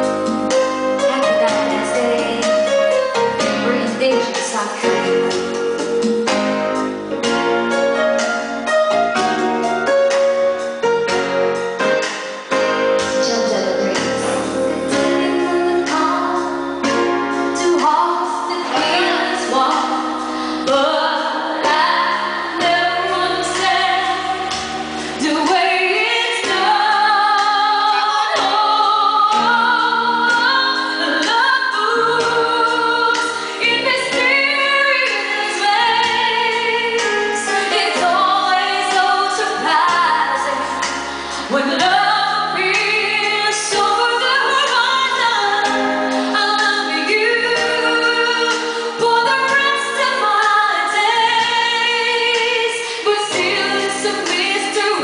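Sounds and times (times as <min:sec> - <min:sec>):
woman singing into microphone: 0:00.0 - 0:05.7, 0:13.2 - 0:55.0
musical accompaniment: 0:00.0 - 0:55.0.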